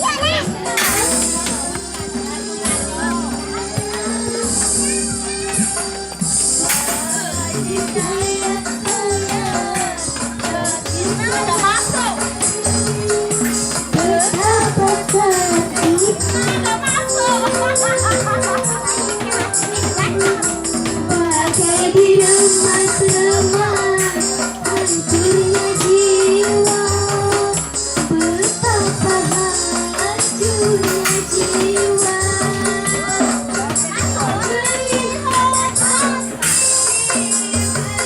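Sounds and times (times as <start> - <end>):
live band through sound system: 0.0 - 38.0.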